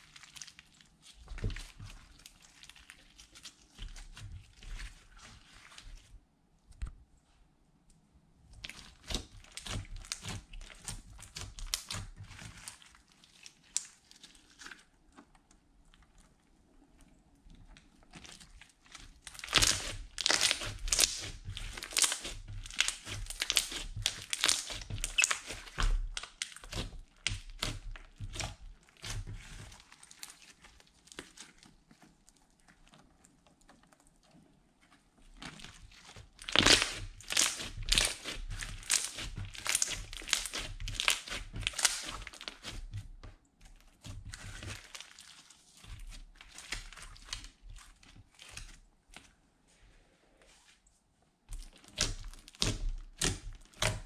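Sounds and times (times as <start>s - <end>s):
slime crackling and popping: 0.0s - 6.0s, 8.6s - 16.3s, 17.7s - 34.4s, 35.2s - 49.2s, 51.5s - 54.0s.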